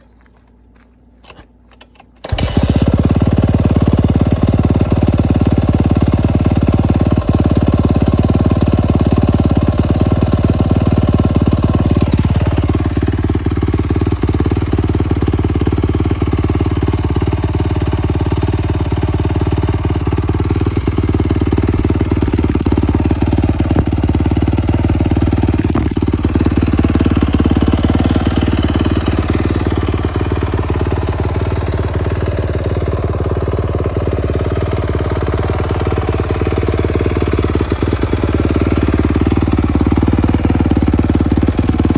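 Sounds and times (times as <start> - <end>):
dirt bike engine at rev limiter: 0.7 - 41.9.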